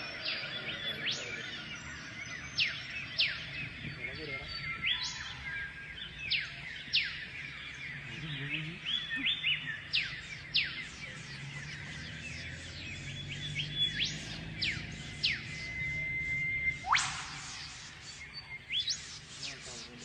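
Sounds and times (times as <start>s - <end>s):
birds chirping in chorus: 0.0s - 20.0s.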